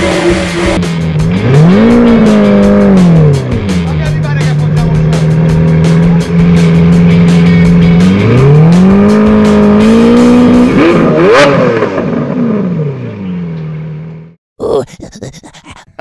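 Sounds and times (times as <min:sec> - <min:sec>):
vehicle engine revving: 0:00.0 - 0:14.4.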